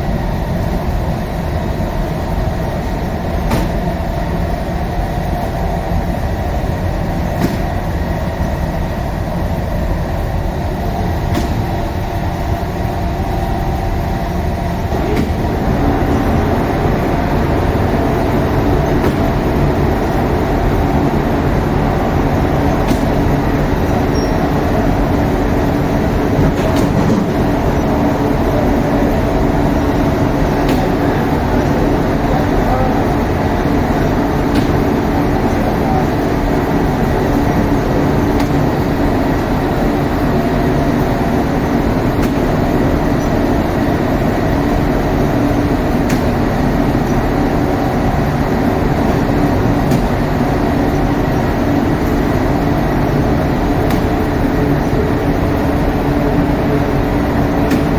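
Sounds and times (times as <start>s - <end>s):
mechanical rumble with low hum: 0.0s - 57.9s.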